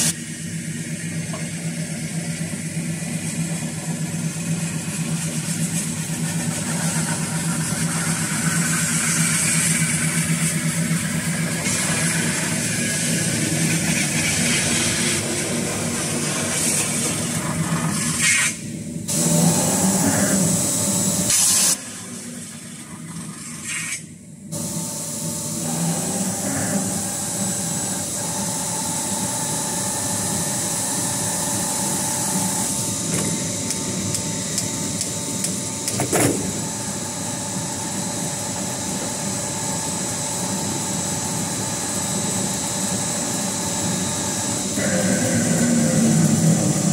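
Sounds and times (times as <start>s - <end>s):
metal spinning machine humming: 0.0s - 23.6s, 24.4s - 46.9s.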